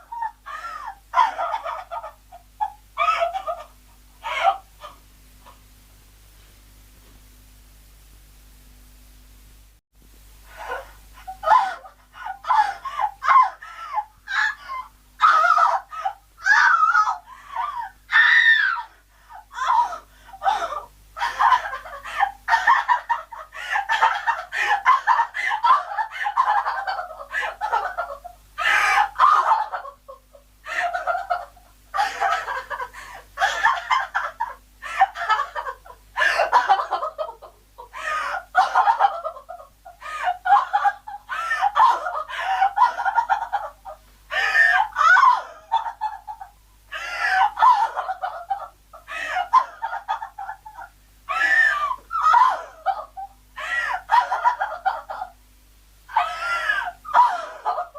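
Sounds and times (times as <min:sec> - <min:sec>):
woman crying hysterically: 0:00.0 - 0:05.0, 0:10.6 - 0:55.4, 0:56.1 - 0:57.9.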